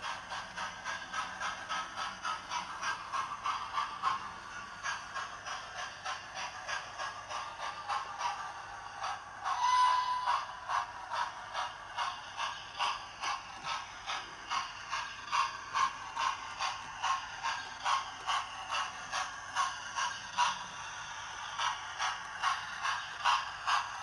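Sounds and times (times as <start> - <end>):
model locomotive steam chuffs: 0.0 - 24.0.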